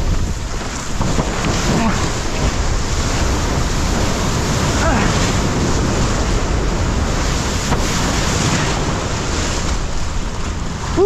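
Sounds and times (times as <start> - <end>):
water rushing under board: 0.0 - 11.0
wind buffeting microphone: 0.0 - 11.0.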